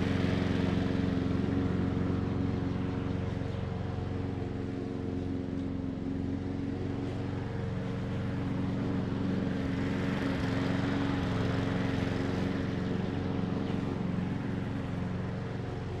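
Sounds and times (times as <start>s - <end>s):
lawn mower running: 0.0s - 16.0s.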